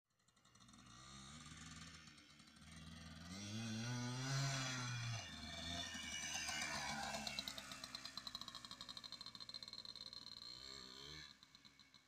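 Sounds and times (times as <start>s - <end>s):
two-stroke motorcycle accelerating: 0.1s - 12.0s.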